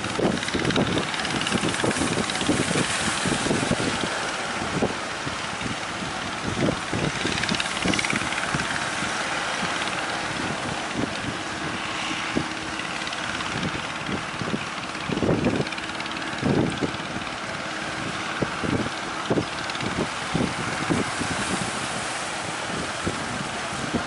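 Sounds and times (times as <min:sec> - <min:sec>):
breaking surf: 0:00.0 - 0:24.0
faint boat engine hum: 0:00.0 - 0:24.0
wind buffeting microphone: 0:00.0 - 0:24.0.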